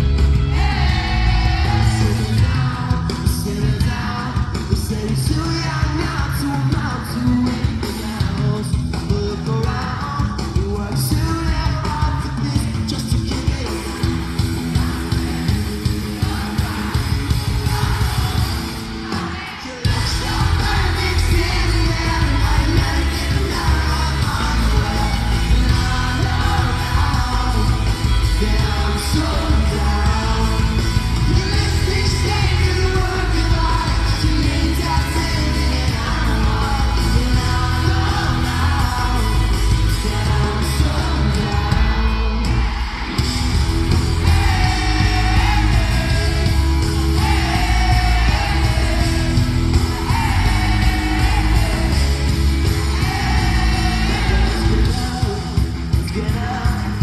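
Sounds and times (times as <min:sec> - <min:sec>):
crowd yelling along: 0:00.0 - 0:08.6, 0:13.4 - 0:57.0
live pop-punk band: 0:00.0 - 0:57.0
person singing lead vocal: 0:00.0 - 0:57.0.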